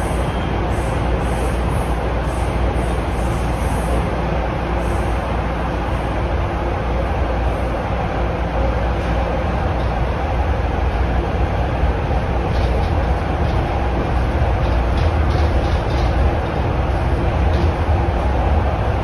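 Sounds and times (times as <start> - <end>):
deep rumble of subway train: 0.0 - 19.0.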